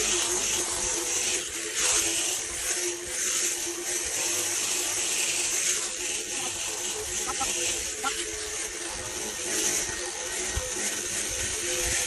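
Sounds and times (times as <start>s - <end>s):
electric shears buzzing: 0.0s - 12.0s.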